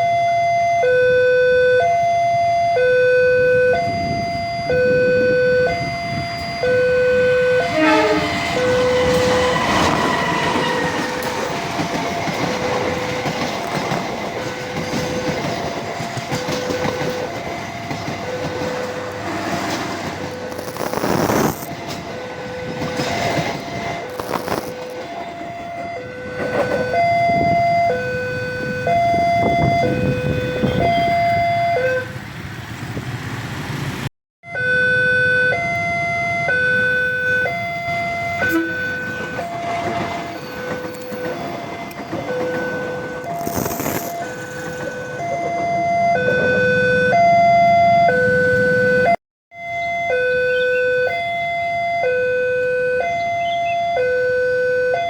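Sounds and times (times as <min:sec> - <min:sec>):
level-crossing two-tone alarm: 0:00.0 - 0:19.3, 0:20.1 - 0:32.1, 0:34.4 - 0:55.0
passing train rumble: 0:03.2 - 0:34.1, 0:35.4 - 0:49.2.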